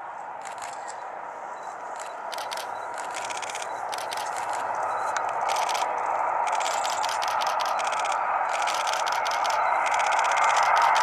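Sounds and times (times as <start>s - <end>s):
jet engines roaring: 0.0s - 11.0s
camera shutter clicks: 0.4s - 1.0s, 2.0s - 11.0s.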